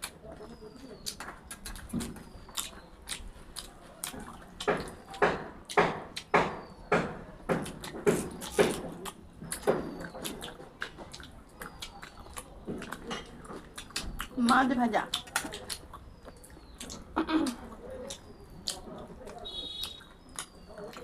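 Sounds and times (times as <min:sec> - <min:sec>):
person chewing and biting: 0:00.0 - 0:06.3, 0:07.5 - 0:21.0
wet mouth sounds: 0:00.9 - 0:05.2, 0:07.7 - 0:21.0.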